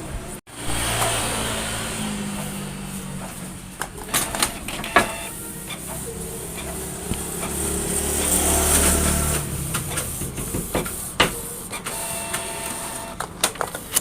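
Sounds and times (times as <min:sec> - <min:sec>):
printer motor whirring: 0:00.8 - 0:14.0.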